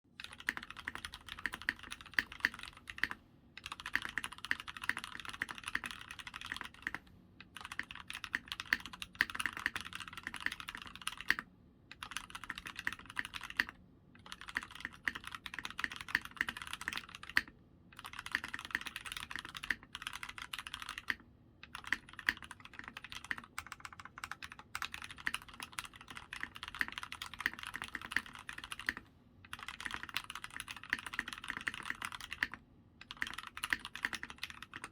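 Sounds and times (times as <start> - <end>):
fast typing on mechanical keyboard: 0.2 - 7.0, 7.6 - 34.9.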